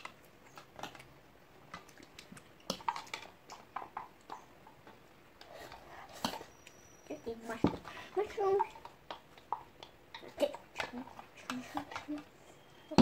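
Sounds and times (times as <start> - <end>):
chewing: 0.0 - 6.9, 7.8 - 12.8.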